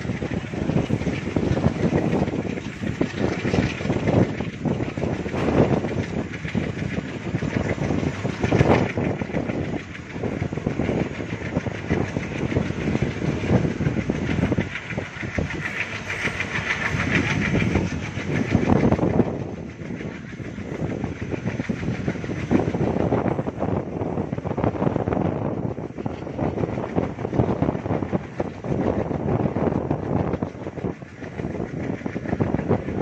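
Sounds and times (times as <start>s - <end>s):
train wheels clattering over rail joints: 0.0s - 33.0s.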